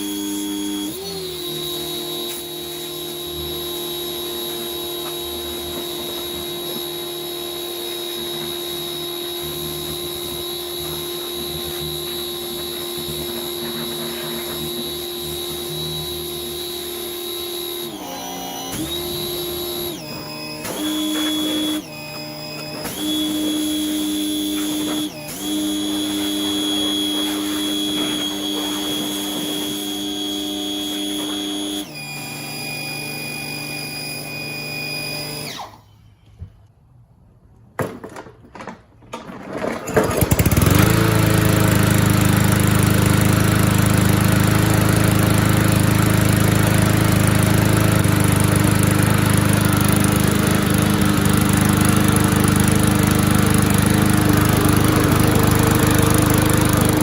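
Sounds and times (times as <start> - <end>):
machine whine: 0.0 - 36.3, 39.9 - 57.0
lawn mower engine starting and running: 0.0 - 36.4, 37.8 - 57.0.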